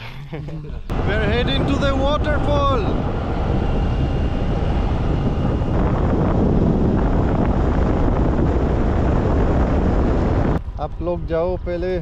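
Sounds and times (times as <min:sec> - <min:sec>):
road and engine rumble: 0:00.8 - 0:12.0
wind noise on microphone: 0:00.9 - 0:12.0.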